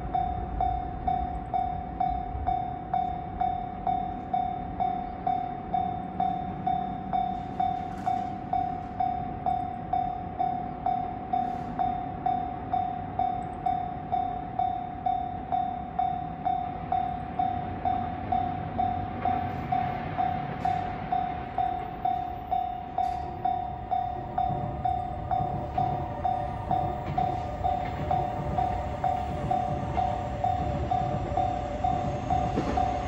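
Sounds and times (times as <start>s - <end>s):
level crossing warning bell ringing: 0.0s - 33.0s.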